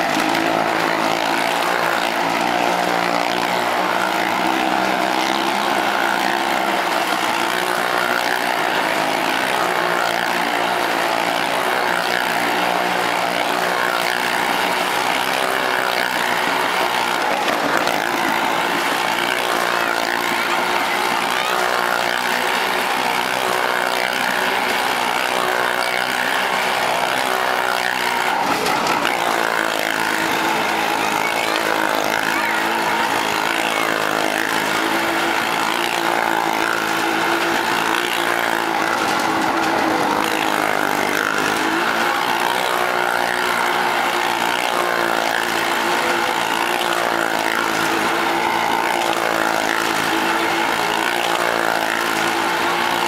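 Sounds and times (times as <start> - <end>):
motorcycle engines running hard: 0.0 - 53.0.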